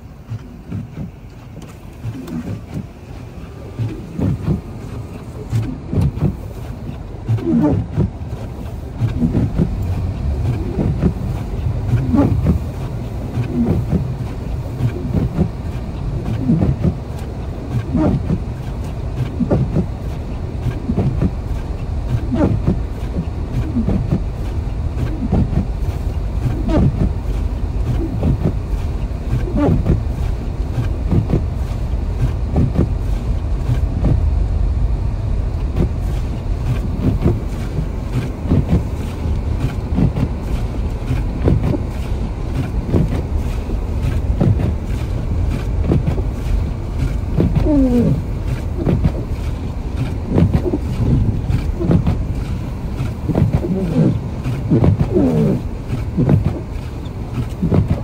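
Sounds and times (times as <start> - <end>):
car cabin rumble: 0.0 - 58.0.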